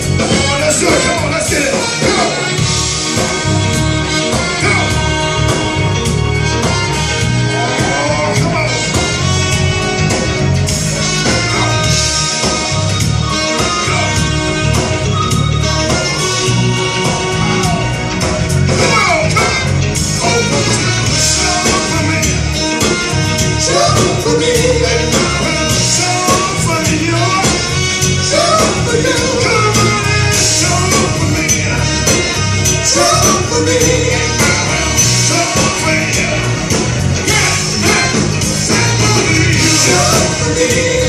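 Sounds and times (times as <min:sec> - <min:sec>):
live band playing soul-rock: 0:00.0 - 0:41.0.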